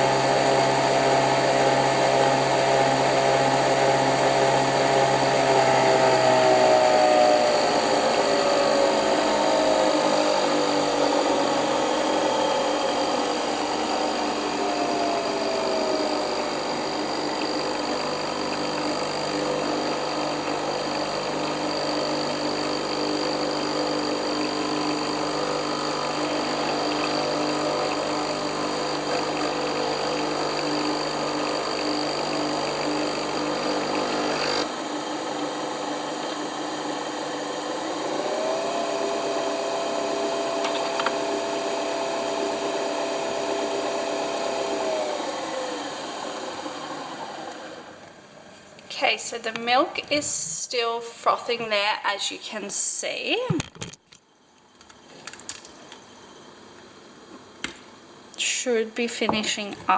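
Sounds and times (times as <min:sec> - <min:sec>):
coffee machine motor whine: 0:00.0 - 0:48.7.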